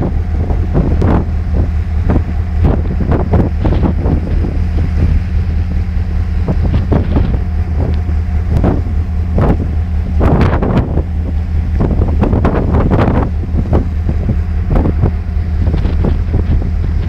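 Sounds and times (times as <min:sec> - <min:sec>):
ship engine humming: 0:00.0 - 0:17.0
wind buffeting microphone: 0:00.0 - 0:17.0.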